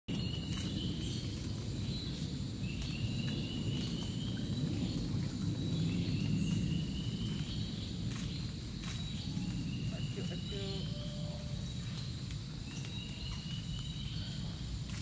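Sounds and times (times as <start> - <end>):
constant low rumble: 0.1 - 15.0.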